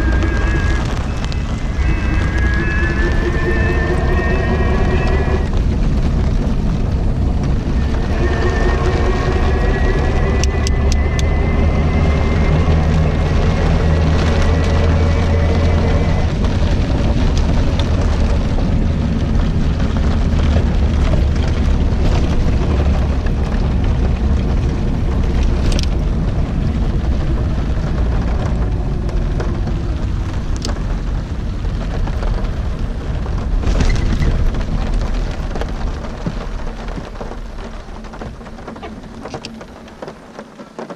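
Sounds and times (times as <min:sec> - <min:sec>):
faint whine: 0:00.0 - 0:40.3
wind buffeting microphone: 0:00.0 - 0:40.5
rain: 0:00.0 - 0:40.9
road noise: 0:00.0 - 0:40.9.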